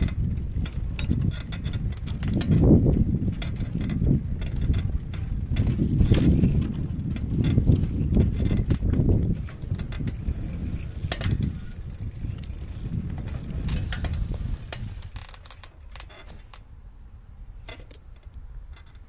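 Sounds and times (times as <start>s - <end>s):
bicycle rattling and clicking: 0.0s - 16.8s, 17.5s - 19.0s
wind rumble on microphone: 0.0s - 19.0s.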